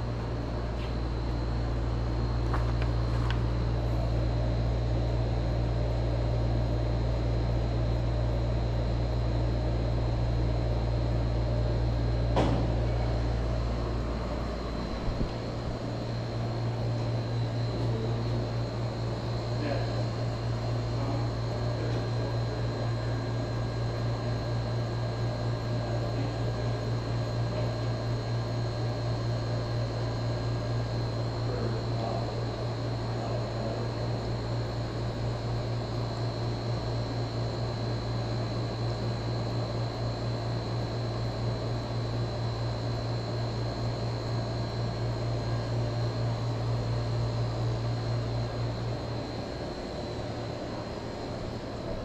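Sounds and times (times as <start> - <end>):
air conditioner humming: 0.0 - 52.0.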